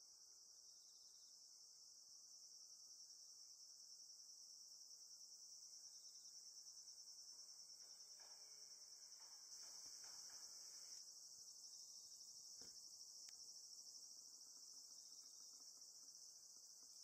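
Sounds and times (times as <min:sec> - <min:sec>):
insects trilling: 0:02.4 - 0:17.0.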